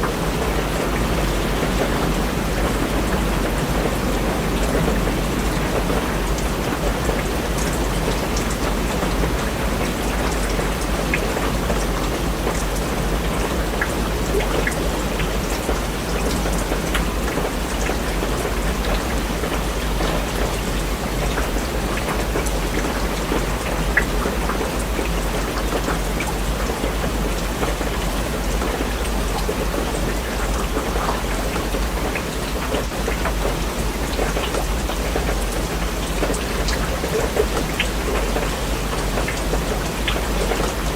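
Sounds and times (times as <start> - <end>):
rain drops ticking on a surface: 0.0 - 40.9
steady rain hiss: 0.0 - 40.9.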